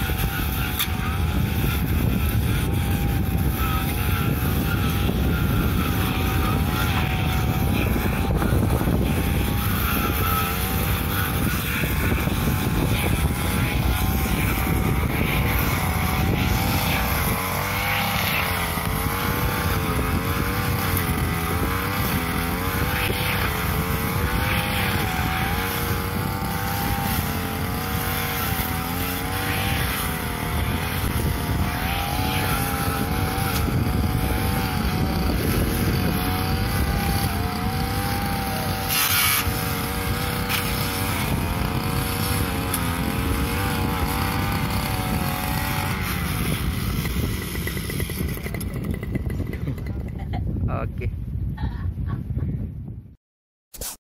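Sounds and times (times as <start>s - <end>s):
brush cutter engine cutting grass: 0.0s - 50.4s.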